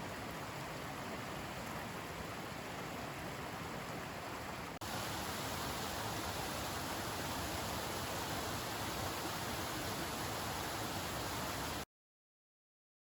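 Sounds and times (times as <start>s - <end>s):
river flowing over rocks: 0.0s - 11.8s.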